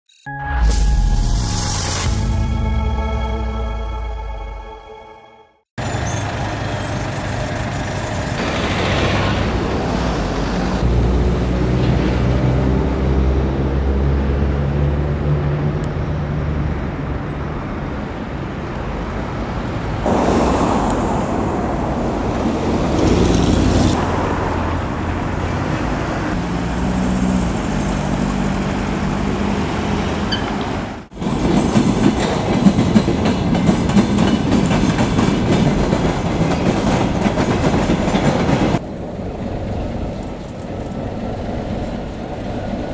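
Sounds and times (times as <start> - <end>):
road traffic engines: 5.8 - 32.9, 33.5 - 42.9
freight train rolling on tracks: 5.8 - 42.9.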